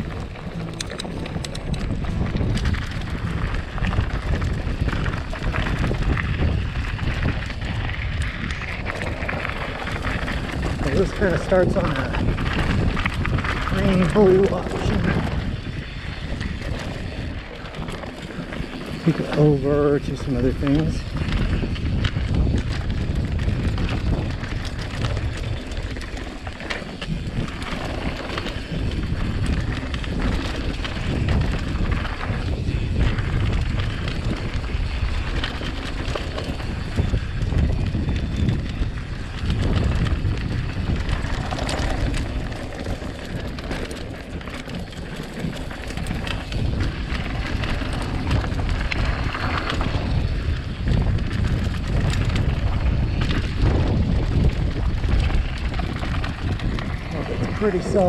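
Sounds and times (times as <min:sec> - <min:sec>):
bike rattling over bumps: 0:00.0 - 0:58.0
bike tyres rolling on dirt: 0:00.0 - 0:58.0
wind on microphone: 0:00.0 - 0:58.0.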